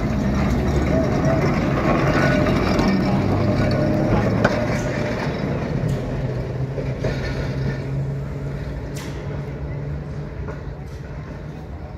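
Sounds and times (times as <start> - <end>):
electric tram hum: 0.0 - 11.9
wheels on rails: 0.0 - 11.9.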